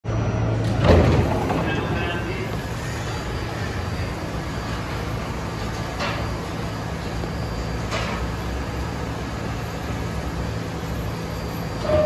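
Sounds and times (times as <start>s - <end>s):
subway train humming: 0.0s - 12.0s.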